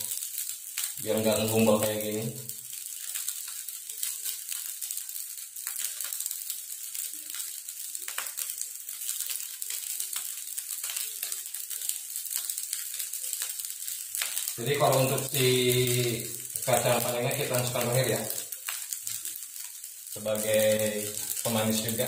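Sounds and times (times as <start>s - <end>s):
food sizzling in a wok: 0.0s - 22.0s.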